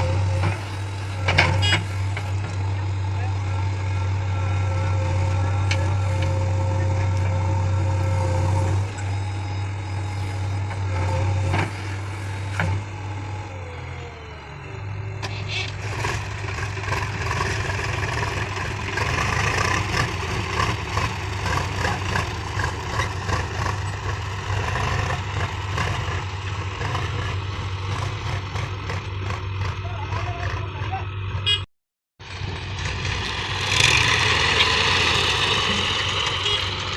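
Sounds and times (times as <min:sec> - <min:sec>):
heavy machinery diesel engine: 0:00.0 - 0:36.9.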